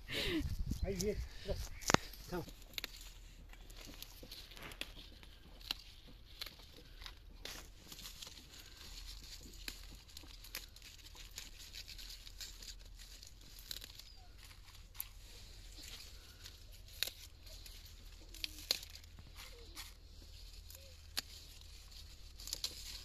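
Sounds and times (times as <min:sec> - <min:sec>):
leaves rustling: 0:00.0 - 0:23.0
stems snapping: 0:00.7 - 0:23.0.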